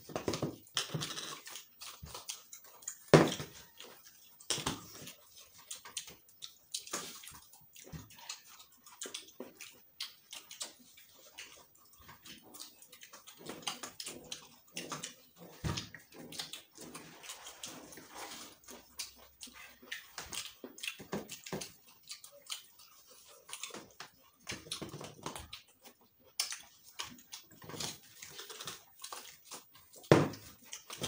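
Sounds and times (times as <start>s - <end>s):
people chewing and lip smacking: 0.0s - 31.0s.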